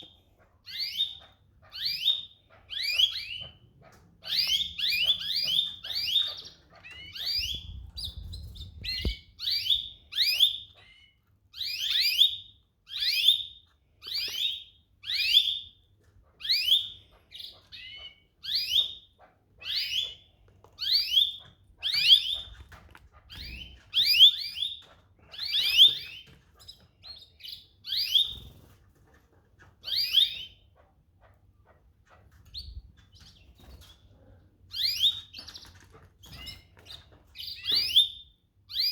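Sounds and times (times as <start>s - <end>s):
canary chirping: 0.0s - 38.9s.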